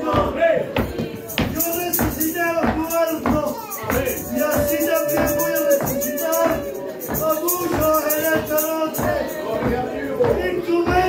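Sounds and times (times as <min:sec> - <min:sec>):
hymn sung with instruments: 0:00.0 - 0:11.0
tambourine or shaker rhythm: 0:00.8 - 0:11.0.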